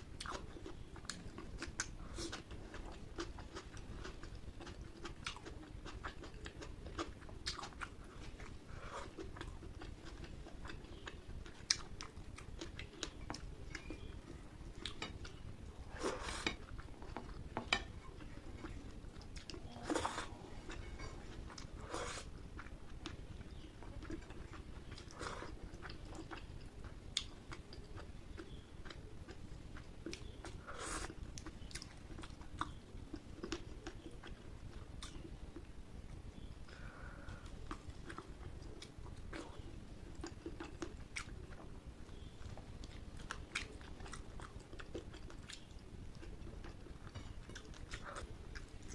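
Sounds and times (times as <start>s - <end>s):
chewing with wet mouth sounds: 0.0s - 48.9s.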